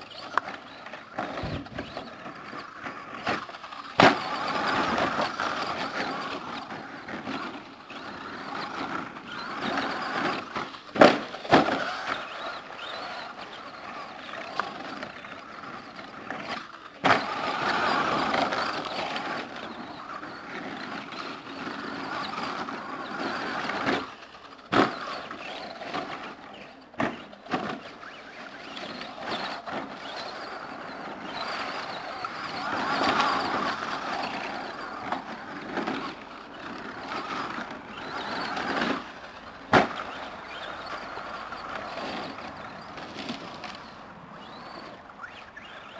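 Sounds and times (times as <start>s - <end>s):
electric rc truck motor: 0.0s - 45.9s.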